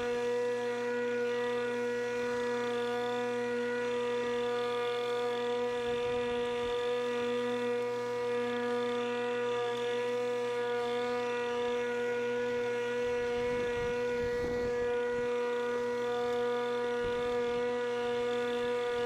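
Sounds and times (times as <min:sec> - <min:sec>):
electric lawnmower whine: 0:00.0 - 0:19.0.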